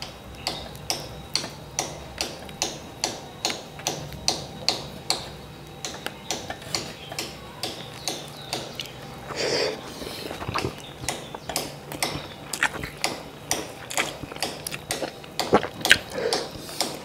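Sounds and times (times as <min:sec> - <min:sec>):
crunching of fried food: 0:00.1 - 0:17.0.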